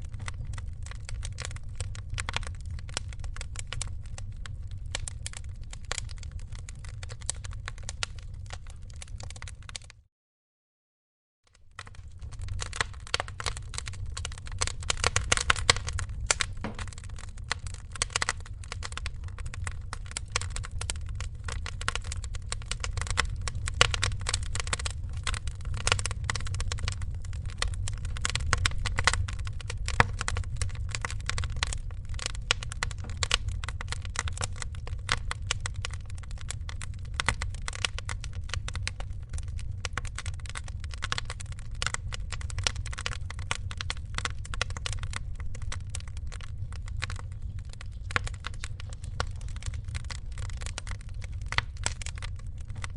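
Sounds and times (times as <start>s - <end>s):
low fire rumble: 0.0s - 10.0s, 11.5s - 52.9s
wood fire crackling: 0.0s - 10.0s, 11.5s - 52.9s.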